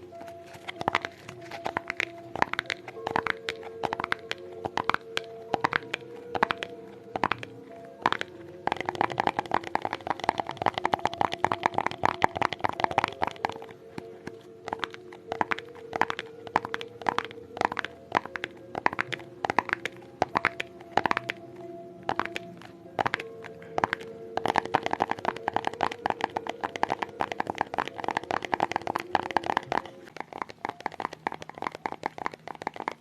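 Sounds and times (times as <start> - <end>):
tapping: 0.0 - 33.0.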